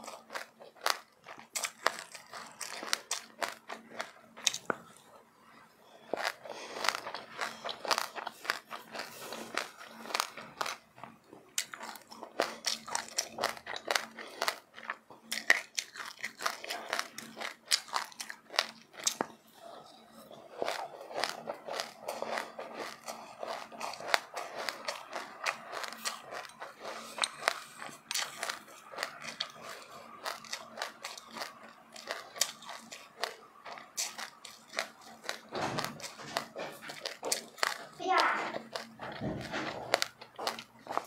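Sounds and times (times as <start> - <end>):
chewing crunchy seeds: 0.0 - 41.0.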